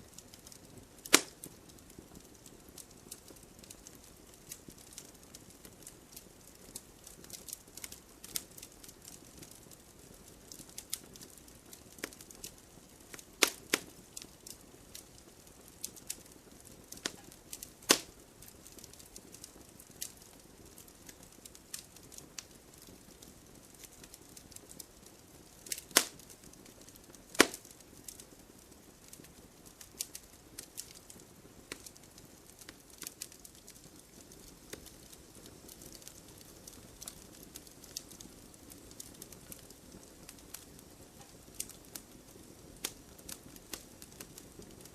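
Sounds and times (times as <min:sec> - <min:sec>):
fire popping: 0:00.0 - 0:44.9
wood fire crackling: 0:00.0 - 0:44.9
fire hissing: 0:00.4 - 0:01.6, 0:02.6 - 0:28.2, 0:29.0 - 0:44.9.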